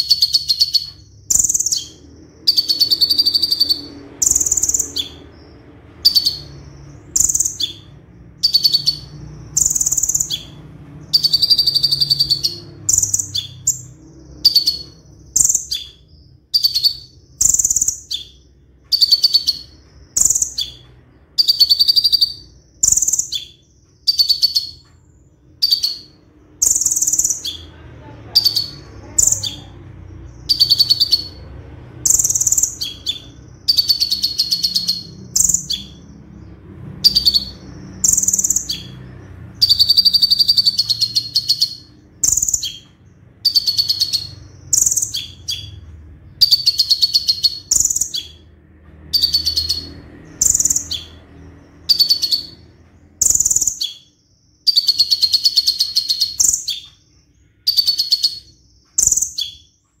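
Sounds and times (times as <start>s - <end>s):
bird singing trilled bursts: 0.0s - 60.0s
faint low hum: 0.0s - 60.0s.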